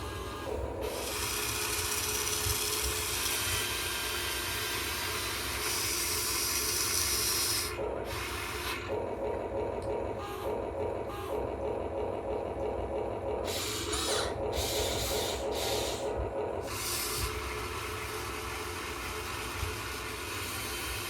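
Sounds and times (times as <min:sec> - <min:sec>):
toy excavator motors whirring: 0:00.0 - 0:09.0, 0:10.2 - 0:11.6, 0:13.4 - 0:21.0.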